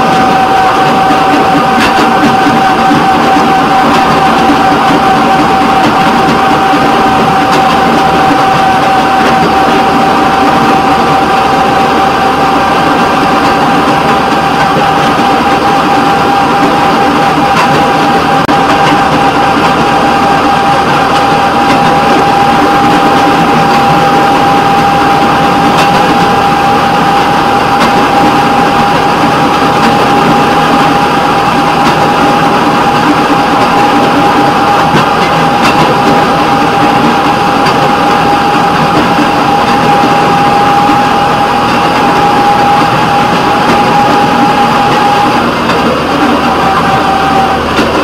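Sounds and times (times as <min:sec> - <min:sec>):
constant high whine: 0:00.0 - 0:48.0
rail vehicle engine and wheel noise: 0:00.0 - 0:48.0.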